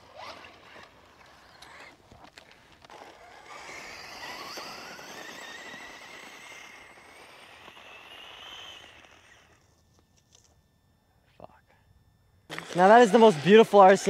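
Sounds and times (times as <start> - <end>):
electric motor whining: 0.0 - 10.6, 12.5 - 14.0.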